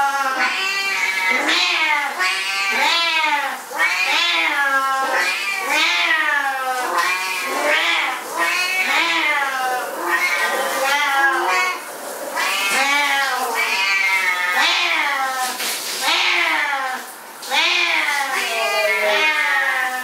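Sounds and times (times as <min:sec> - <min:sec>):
cats yowling: 0:00.0 - 0:20.0.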